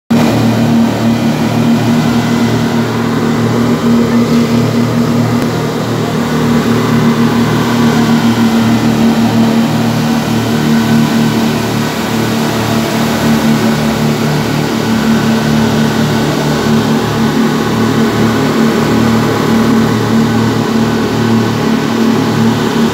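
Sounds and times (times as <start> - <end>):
boat engines droning: 0.1 - 22.9.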